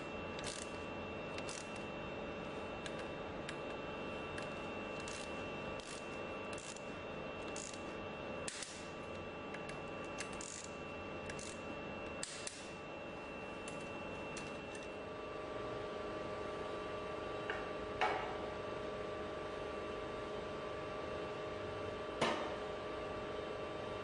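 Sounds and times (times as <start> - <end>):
background hum with high whine: 0.0 - 24.0.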